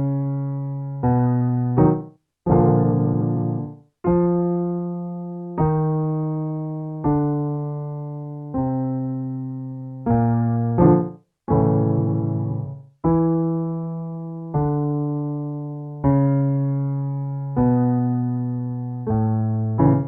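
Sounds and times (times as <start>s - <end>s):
piano notes: 0.0s - 20.0s.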